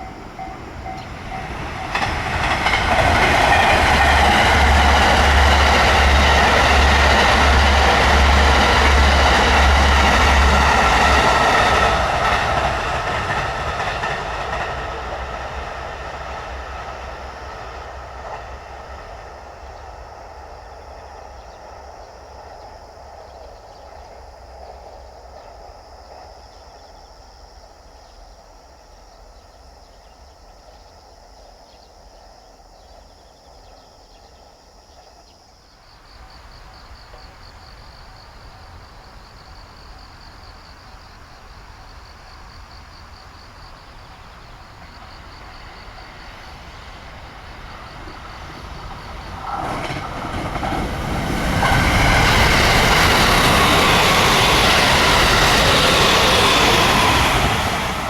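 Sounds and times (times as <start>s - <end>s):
insects chirping: 0.0s - 58.0s
train rumble: 0.0s - 58.0s.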